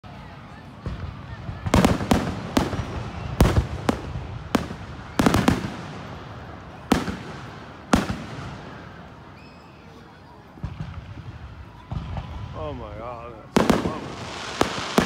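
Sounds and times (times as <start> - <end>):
fireworks bangs with rolling echo: 0.4 - 15.0.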